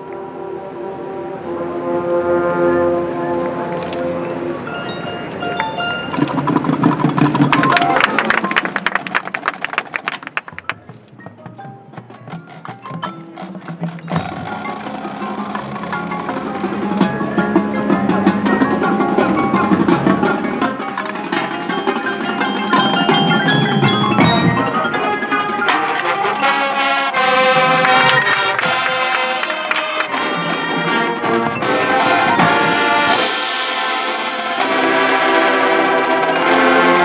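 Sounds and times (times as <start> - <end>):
marching band mallet percussion: 3.4 - 37.0.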